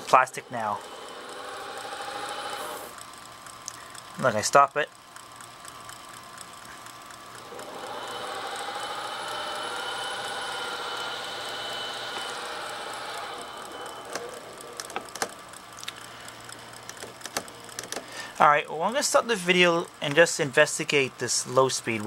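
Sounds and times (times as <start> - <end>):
sharp mechanical clicks: 0.0 - 22.0
tape drive motor whine: 0.0 - 22.0.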